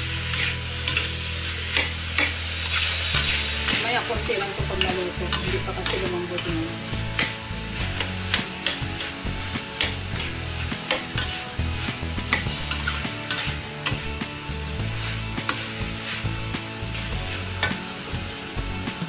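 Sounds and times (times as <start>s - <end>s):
meat and vegetables sizzling in wok: 0.0s - 19.0s
metal spatula scraping wok: 0.0s - 19.0s.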